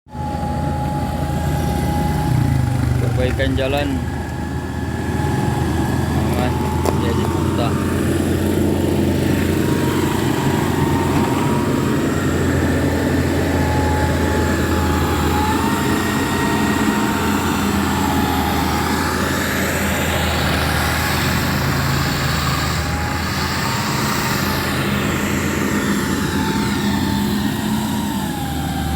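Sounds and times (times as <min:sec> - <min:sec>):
heavy engine running steadily: 0:00.1 - 0:28.9.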